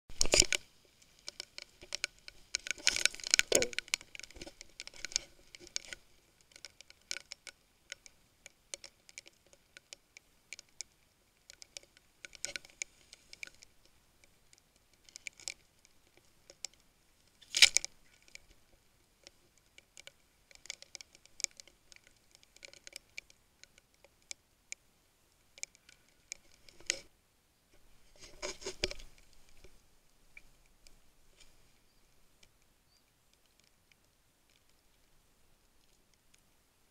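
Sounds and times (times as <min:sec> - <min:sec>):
squid clicking: 0:00.1 - 0:27.1, 0:28.2 - 0:31.6, 0:32.3 - 0:36.6.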